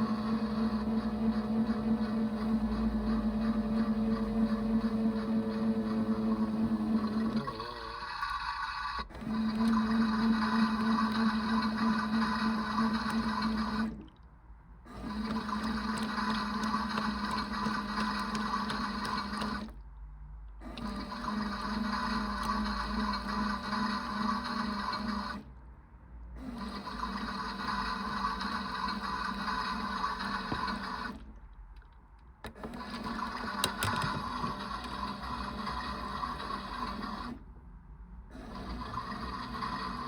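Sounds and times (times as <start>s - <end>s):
toy washing machine motor humming: 0.0s - 14.1s, 14.9s - 19.8s, 20.6s - 25.5s, 26.4s - 31.3s, 32.5s - 37.4s, 38.3s - 40.0s.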